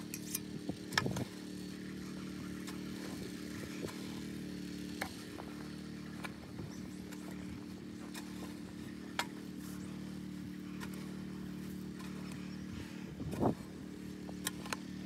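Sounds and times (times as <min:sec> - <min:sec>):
engine droning hum: 0:00.0 - 0:15.0
metal rake scraping soil: 0:00.0 - 0:15.0.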